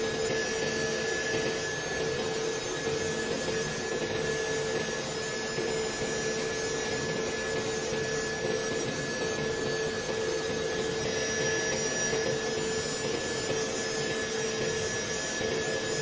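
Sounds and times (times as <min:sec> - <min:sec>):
electric nail drill filing: 0:00.0 - 0:16.0.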